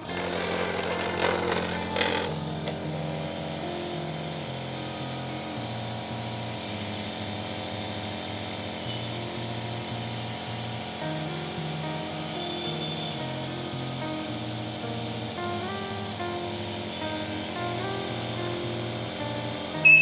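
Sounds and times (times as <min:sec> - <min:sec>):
nebulizer compressor humming: 0:00.0 - 0:20.0.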